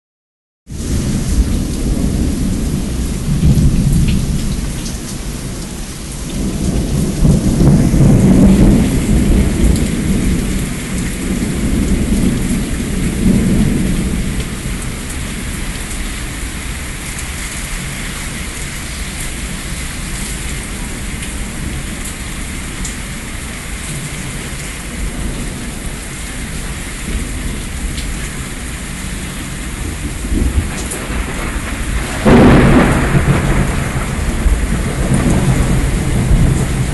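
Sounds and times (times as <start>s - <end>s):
heavy rain: 0.7s - 36.9s
thunder rumbling: 0.7s - 36.9s.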